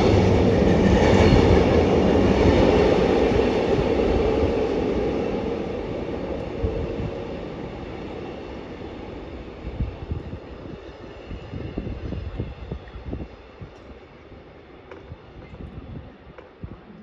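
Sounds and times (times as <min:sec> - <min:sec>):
train rumbling past: 0:00.0 - 0:16.6.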